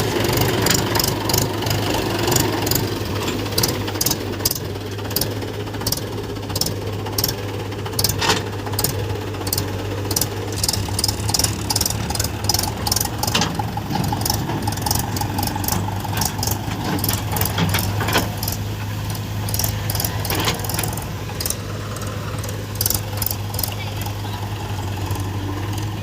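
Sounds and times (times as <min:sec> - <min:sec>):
diesel engine running: 0:00.0 - 0:26.0
sharp rattling clicks: 0:00.0 - 0:26.0.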